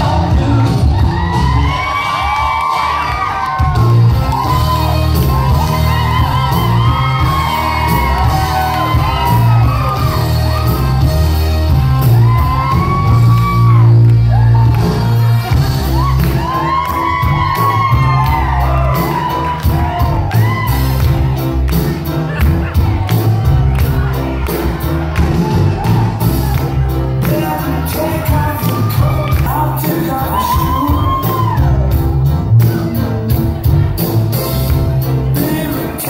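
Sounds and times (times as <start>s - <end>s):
people shouting and whooping: 0.0s - 32.1s
loud music with heavy bass: 0.0s - 36.0s.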